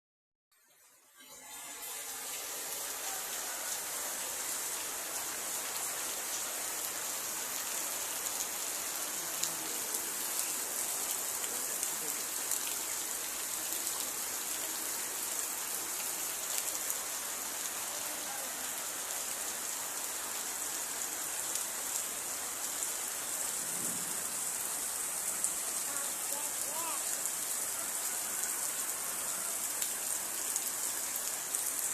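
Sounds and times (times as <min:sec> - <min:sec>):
steady rain falling: 0:01.2 - 0:31.9.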